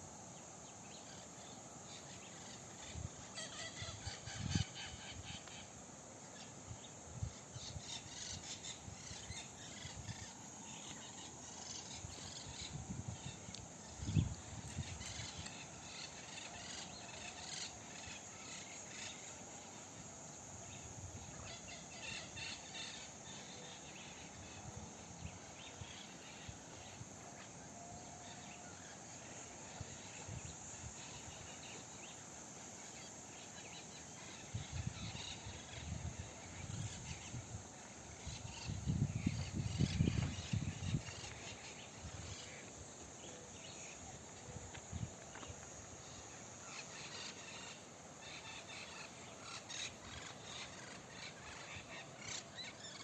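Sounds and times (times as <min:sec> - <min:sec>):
insects buzzing: 0:00.0 - 0:53.0.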